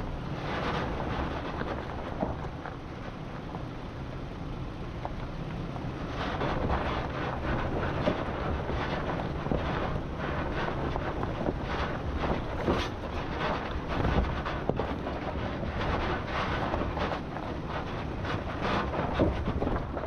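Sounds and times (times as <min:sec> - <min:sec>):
vehicle engine and tyre noise: 0:00.0 - 0:20.0
wind buffeting microphone: 0:00.0 - 0:20.0
stones knocking and crackling: 0:00.5 - 0:03.8, 0:05.0 - 0:20.0.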